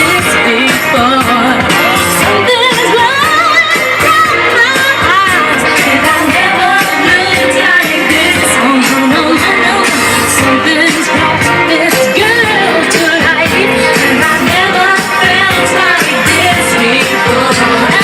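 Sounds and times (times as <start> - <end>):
song with lead vocals: 0.0 - 18.0.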